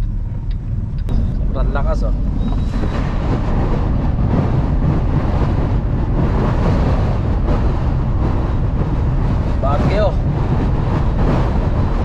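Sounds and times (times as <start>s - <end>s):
road and engine rumble: 0.0s - 12.0s
wind rushing against truck cab: 0.0s - 12.0s.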